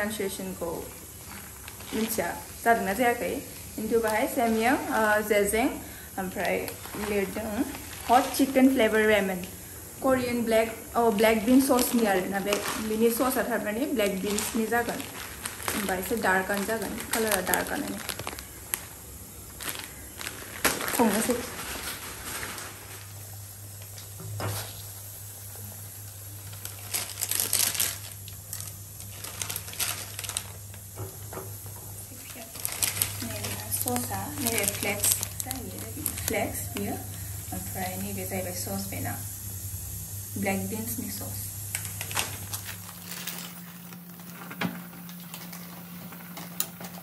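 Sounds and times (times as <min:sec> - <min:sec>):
plastic wrapper crinkling: 0:00.2 - 0:24.7, 0:25.9 - 0:39.0, 0:40.5 - 0:47.0.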